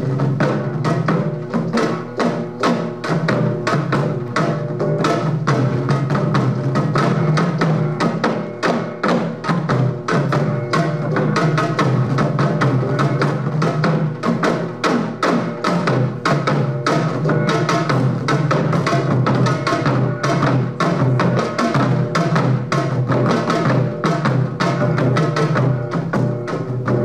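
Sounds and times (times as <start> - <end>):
barrel drums beaten rapidly: 0.0 - 27.0.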